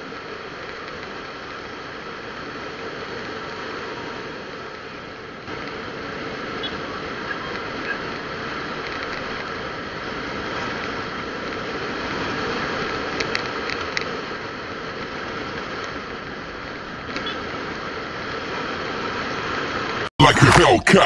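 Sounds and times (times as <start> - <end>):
vehicle engine and road noise: 0.0 - 20.1.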